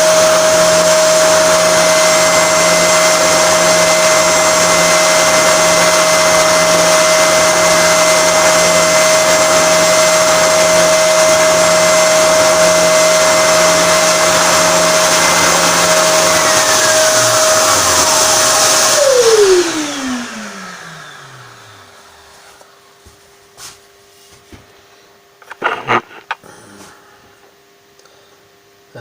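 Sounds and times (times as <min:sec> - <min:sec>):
power tool motor whine: 0:00.0 - 0:22.8, 0:25.4 - 0:26.4.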